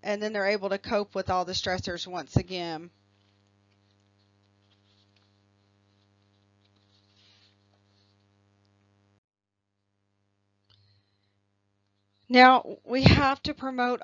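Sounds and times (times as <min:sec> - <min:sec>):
faint steady hum: 0:00.0 - 0:09.2, 0:10.6 - 0:14.0.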